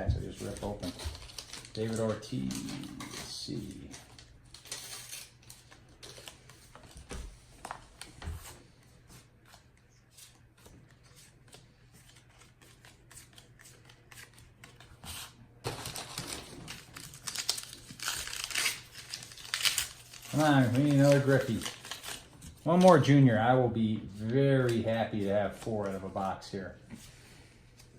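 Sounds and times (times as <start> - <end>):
cards being flipped through: 0.2 - 23.2, 24.0 - 26.3.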